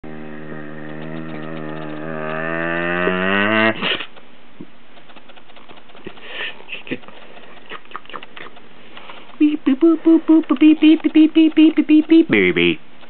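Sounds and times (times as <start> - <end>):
faint clicks: 0.6 - 2.6, 3.8 - 13.0.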